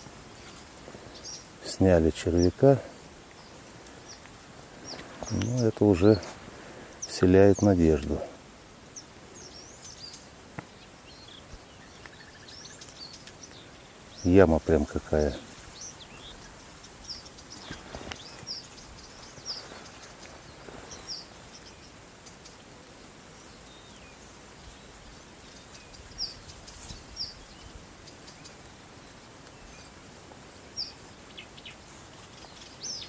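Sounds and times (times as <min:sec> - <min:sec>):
small bird chirping: 0:00.0 - 0:02.7, 0:03.3 - 0:06.3, 0:08.9 - 0:22.8, 0:23.4 - 0:30.0, 0:30.7 - 0:33.0
faint outdoor hiss: 0:00.0 - 0:33.0.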